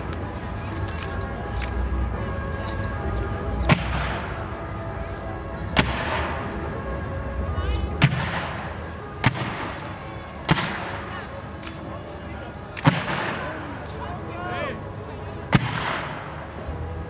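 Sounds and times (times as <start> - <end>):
background music with sustained tones: 0.0 - 17.0.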